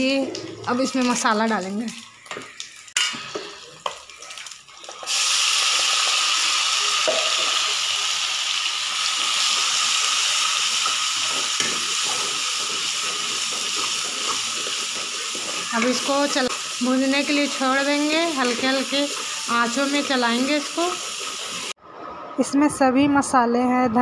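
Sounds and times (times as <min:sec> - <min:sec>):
paste sizzling in hot oil: 0:00.8 - 0:21.8.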